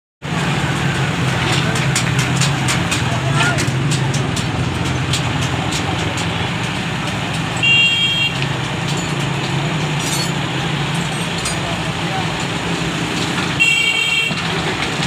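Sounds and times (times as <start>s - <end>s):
diesel engines droning: 0.2s - 15.0s
street traffic: 0.2s - 15.0s.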